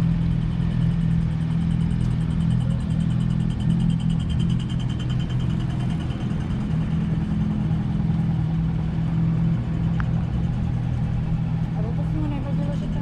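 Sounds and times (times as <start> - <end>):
road rumble: 0.0 - 13.0
vehicle engine humming: 0.0 - 13.0.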